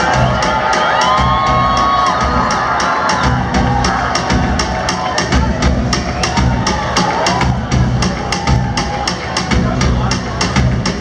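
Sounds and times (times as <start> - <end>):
drum kit beat: 0.0 - 11.0
live rock band playing: 0.0 - 11.0.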